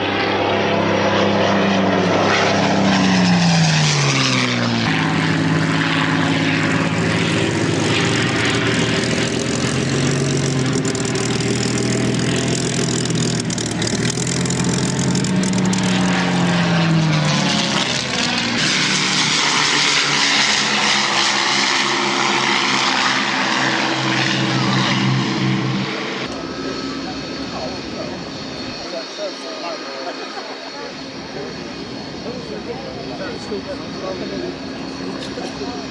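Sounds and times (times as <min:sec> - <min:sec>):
propeller aircraft engine drone: 0:00.0 - 0:35.9.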